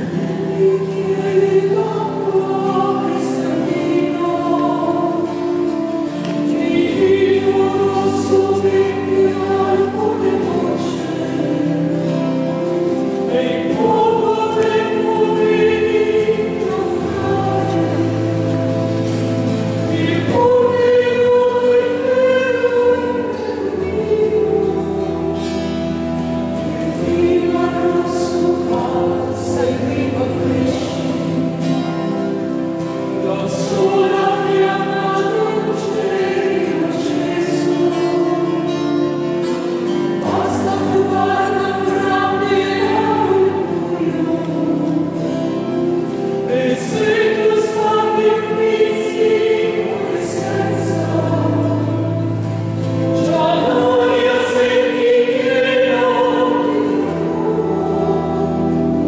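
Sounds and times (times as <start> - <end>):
choir singing sacred music: 0.0 - 59.0.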